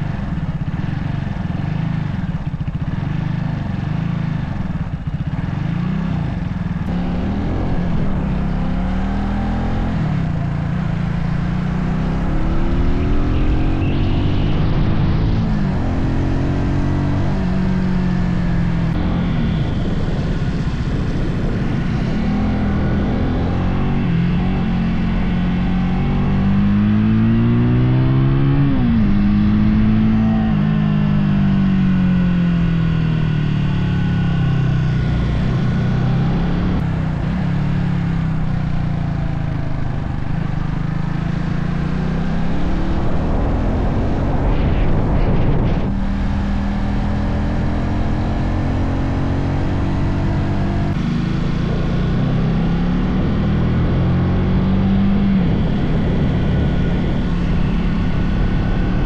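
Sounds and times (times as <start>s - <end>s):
motorcycle engine running: 0.0s - 59.0s
road and wind rush: 0.0s - 59.0s.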